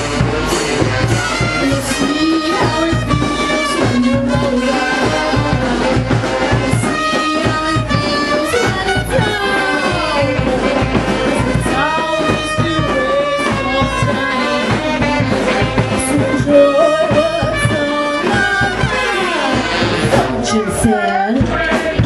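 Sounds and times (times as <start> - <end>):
brass marching band playing: 0.0 - 22.0
steady drum beat: 0.0 - 22.0.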